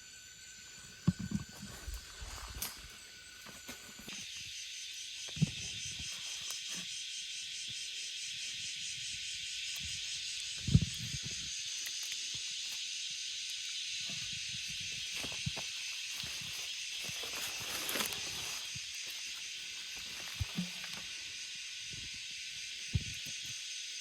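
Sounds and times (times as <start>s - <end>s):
insect chorus hissing: 0.0s - 24.0s.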